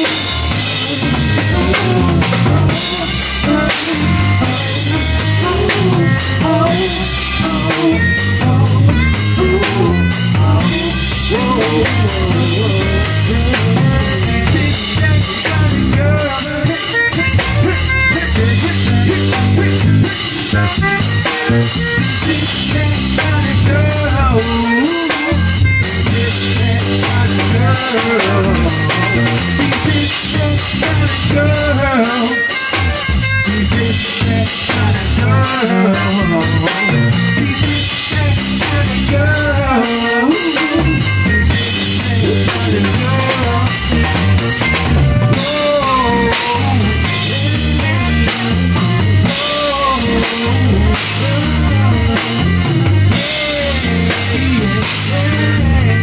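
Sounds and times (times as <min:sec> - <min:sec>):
bass guitar line: 0:00.0 - 0:56.0
drum kit steady beat: 0:00.0 - 0:56.0.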